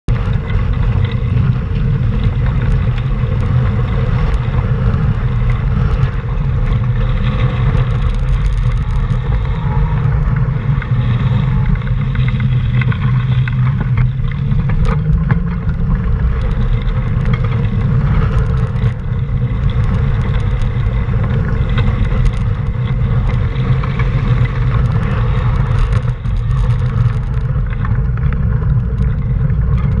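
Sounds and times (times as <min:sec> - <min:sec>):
tyres on wet pavement: 0:00.1 - 0:30.0
wind buffeting microphone: 0:00.1 - 0:30.0.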